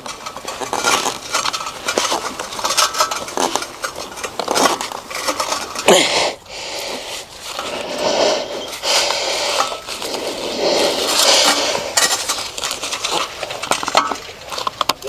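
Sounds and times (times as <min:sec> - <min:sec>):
metal and plastic parts clinking: 0:00.0 - 0:06.2, 0:08.6 - 0:15.0.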